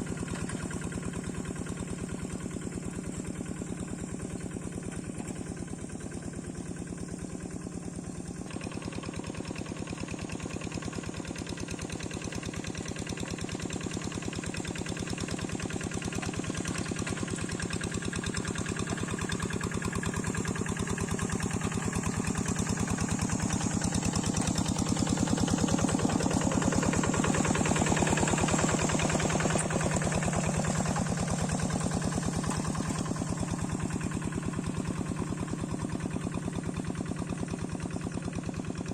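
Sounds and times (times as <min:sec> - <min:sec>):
single-cylinder diesel engine running: 0:00.0 - 0:38.9.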